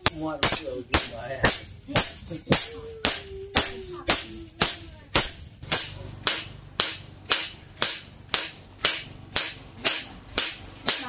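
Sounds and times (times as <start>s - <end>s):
hammer clanging on steel blade: 0.0s - 11.0s.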